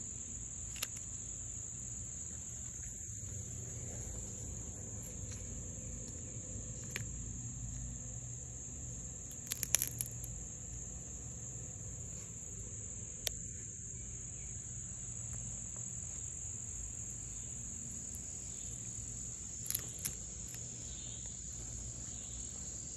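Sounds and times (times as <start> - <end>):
high-pitched insects trilling: 0.0 - 22.9.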